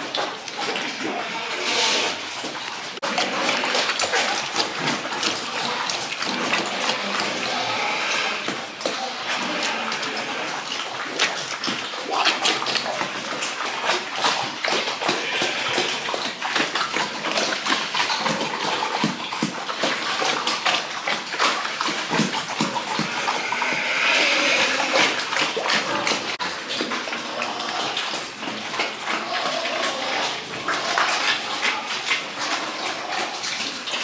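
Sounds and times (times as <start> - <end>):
water splashing and splattering: 0.0 - 34.0
short splashes and knocks: 2.2 - 29.6.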